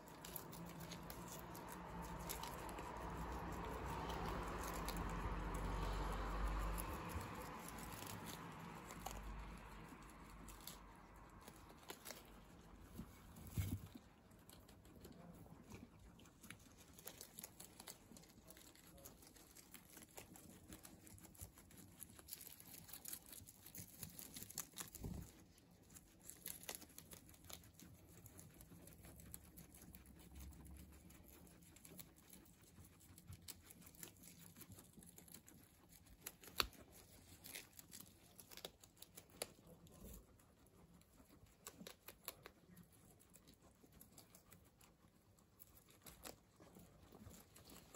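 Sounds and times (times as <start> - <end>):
guinea pigs munching lettuce: 0.0 - 47.9.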